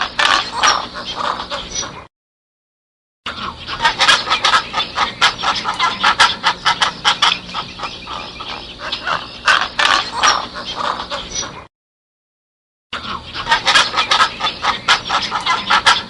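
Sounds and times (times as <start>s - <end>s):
poultry calling: 0.0s - 2.1s, 3.3s - 11.7s, 13.0s - 16.0s.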